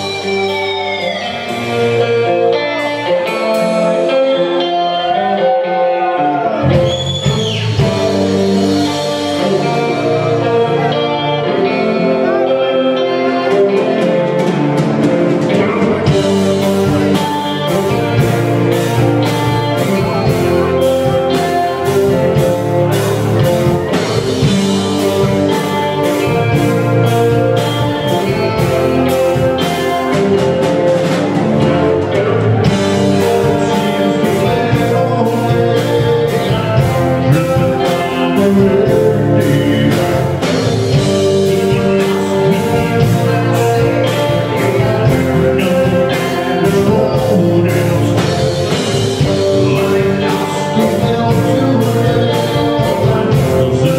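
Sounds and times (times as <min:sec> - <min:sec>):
drum kit: 0:00.0 - 0:05.4, 0:06.0 - 0:53.9
bass guitar: 0:00.0 - 0:53.9
electric guitars: 0:00.0 - 0:53.9.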